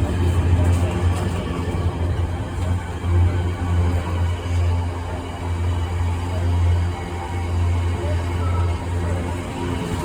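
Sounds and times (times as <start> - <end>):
road noise rumble: 0.0 - 10.0.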